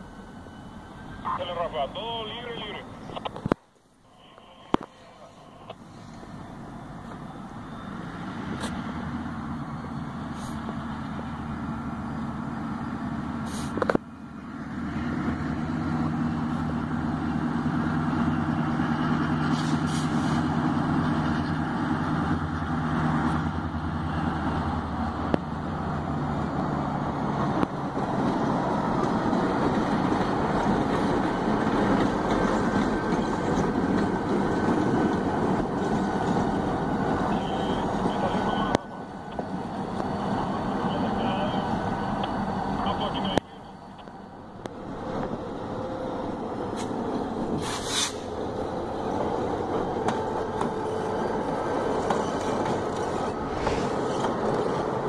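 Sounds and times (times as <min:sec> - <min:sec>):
locomotive engine drone: 0:00.0 - 0:55.0.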